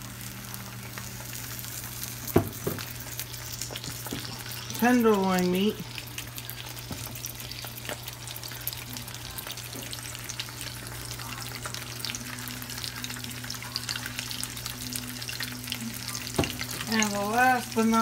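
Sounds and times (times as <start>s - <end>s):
egg sizzling in a skillet: 0.0s - 18.0s
low steady hum: 0.0s - 18.0s.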